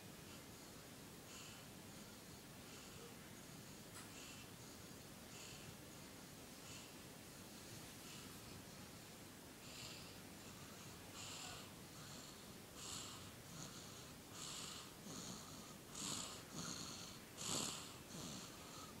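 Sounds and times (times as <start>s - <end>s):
baby snoring softly: 0.3s - 7.0s, 9.6s - 19.0s.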